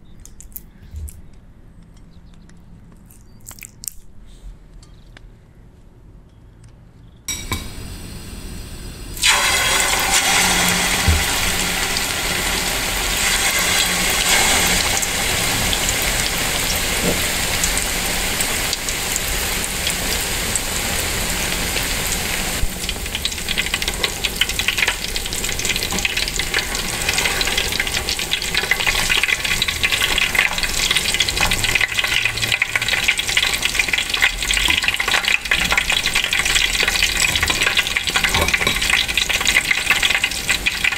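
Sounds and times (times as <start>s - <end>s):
chicken deep-frying in oil: 7.3s - 40.9s.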